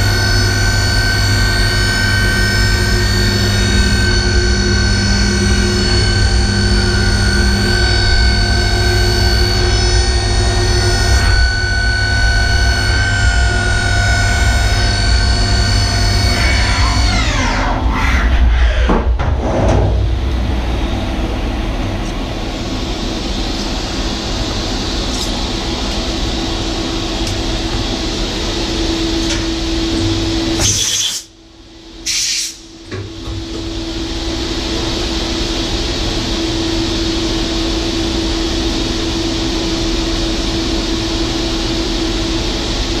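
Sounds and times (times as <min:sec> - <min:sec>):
idle machine hum and hiss: 0:00.0 - 0:17.6, 0:20.0 - 0:43.0.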